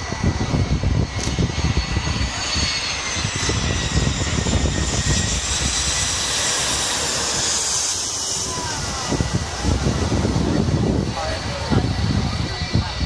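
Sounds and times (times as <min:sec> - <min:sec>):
high engine whine: 0:00.0 - 0:13.0
jet engines roaring overhead: 0:00.0 - 0:13.0
wind buffeting microphone: 0:00.0 - 0:13.0.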